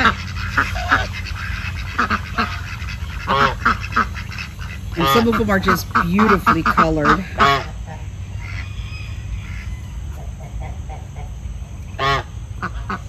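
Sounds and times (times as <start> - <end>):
ducks and geese calling: 0.0 - 13.0.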